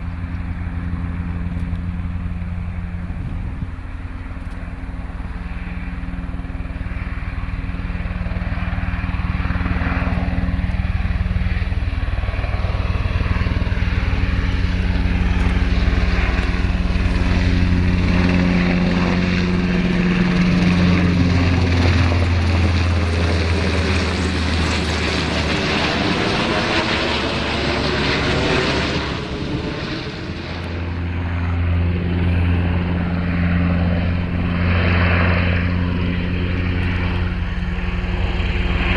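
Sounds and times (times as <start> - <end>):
aircraft whooshing past: 0.0 - 38.9
military aircraft engine drone: 0.0 - 38.9.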